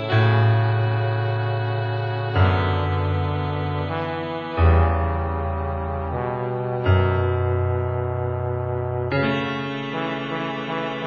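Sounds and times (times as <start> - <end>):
music with held chords: 0.0 - 11.0.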